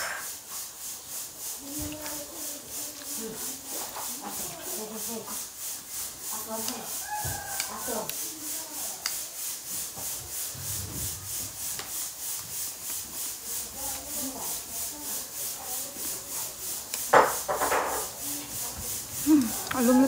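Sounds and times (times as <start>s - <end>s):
pulsing hiss: 0.0s - 20.0s.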